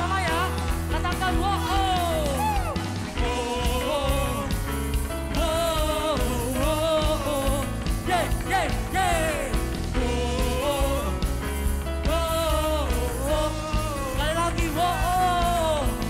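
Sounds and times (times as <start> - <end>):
band accompaniment with bass: 0.0 - 16.0
person singing worship song: 0.0 - 16.0.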